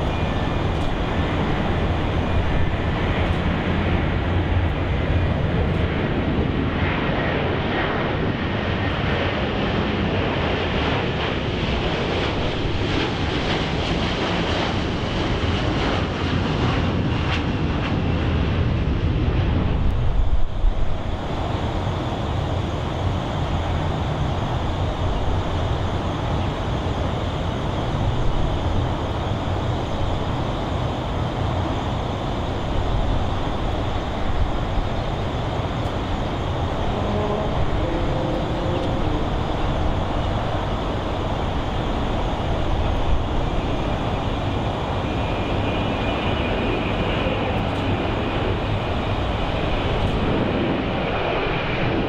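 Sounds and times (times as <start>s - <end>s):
faint whine: 0.0s - 9.4s, 19.4s - 52.0s
jet airliner taking off: 0.0s - 52.0s.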